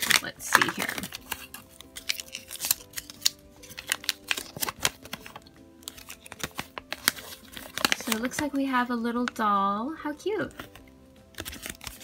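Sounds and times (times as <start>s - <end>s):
plastic and paper crinkling: 0.0s - 9.4s, 10.5s - 12.0s
soft background music: 0.0s - 12.0s.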